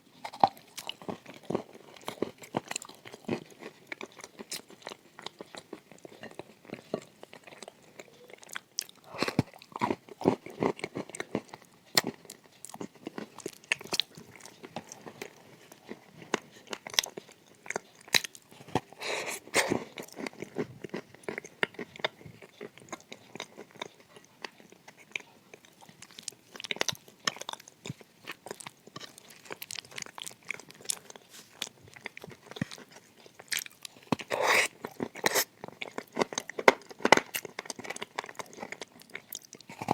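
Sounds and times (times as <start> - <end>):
clay being chewed with crunches: 0.1 - 39.9.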